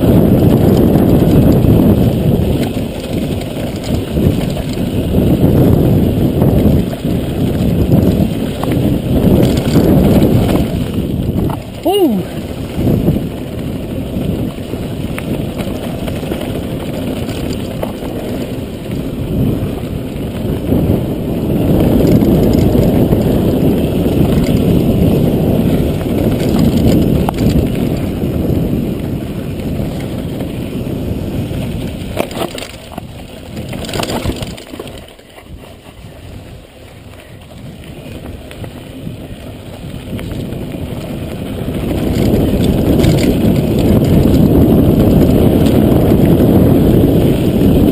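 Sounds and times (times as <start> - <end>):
tyres rolling over dirt: 0.0 - 47.9
wind rumbling on microphone: 0.0 - 47.9.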